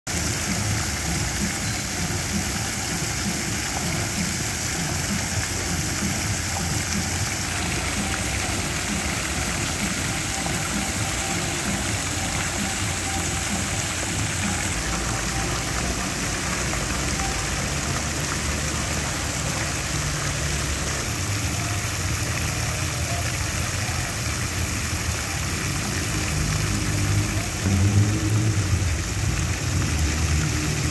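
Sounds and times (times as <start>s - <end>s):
fountain water splashing: 0.1s - 30.9s
low traffic rumble: 0.1s - 30.9s.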